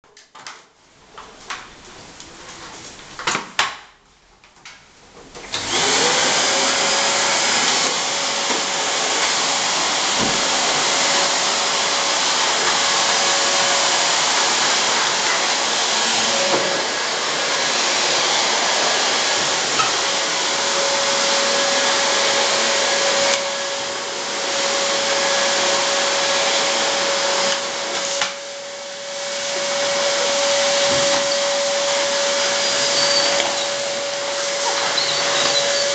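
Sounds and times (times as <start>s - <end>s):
vacuum cleaner motor whine: 5.4s - 35.9s.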